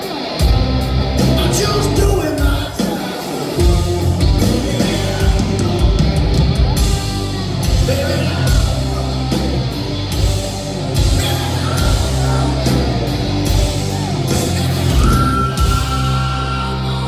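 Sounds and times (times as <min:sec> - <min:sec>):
rock band playing live: 0:00.0 - 0:17.0
lead singer singing: 0:01.3 - 0:09.9, 0:10.9 - 0:17.0.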